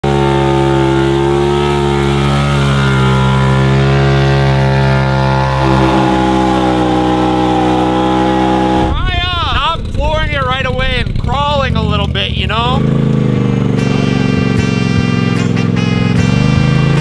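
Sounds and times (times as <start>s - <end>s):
utility vehicle engine running: 0.0s - 17.0s.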